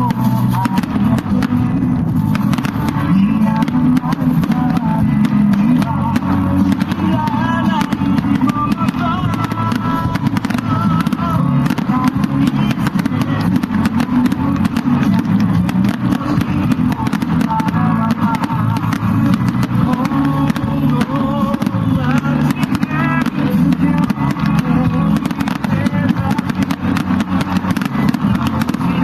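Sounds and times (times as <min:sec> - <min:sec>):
fireworks crackling: 0:00.0 - 0:29.0
music playing: 0:00.0 - 0:29.0.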